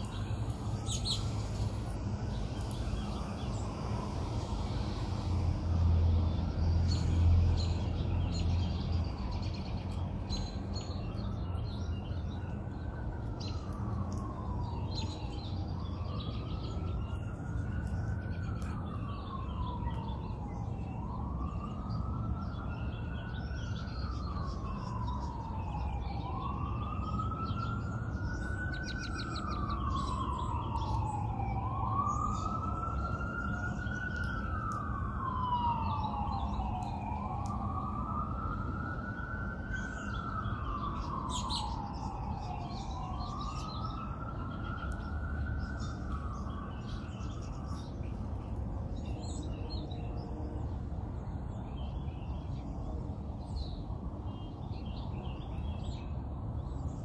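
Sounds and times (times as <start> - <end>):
small birds chirping: 0.0 - 5.5, 6.1 - 57.0
emergency siren wailing: 0.0 - 57.0.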